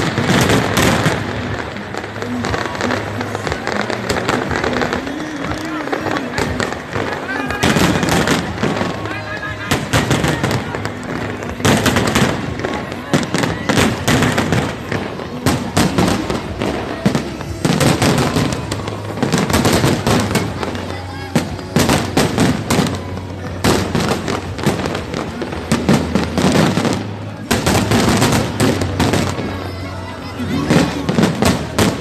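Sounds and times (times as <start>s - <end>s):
fireworks bangs and crackling pops: 0.0s - 32.0s.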